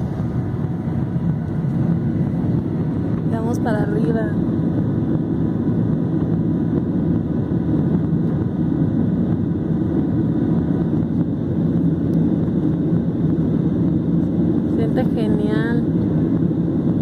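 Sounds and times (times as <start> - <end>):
jet engine roar in cabin: 0.0 - 17.0.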